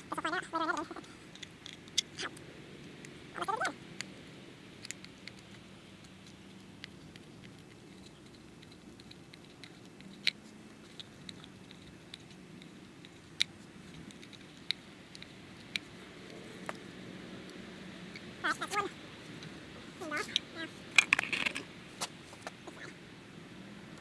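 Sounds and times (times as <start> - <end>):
faint steady hum: 0.0 - 24.0
adhesive scraping clicks: 0.7 - 2.4, 4.0 - 16.8, 17.4 - 23.0.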